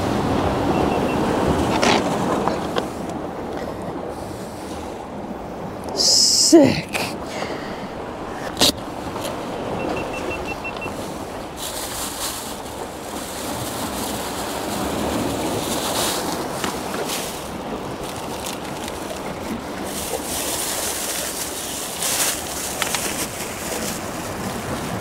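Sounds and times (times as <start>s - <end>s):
sea surf washing against rocks: 0.0s - 25.0s.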